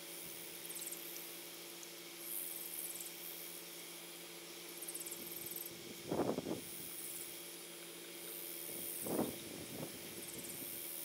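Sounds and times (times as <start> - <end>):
faint hum: 0.0 - 11.0
high buzzing insect trill: 0.1 - 11.0.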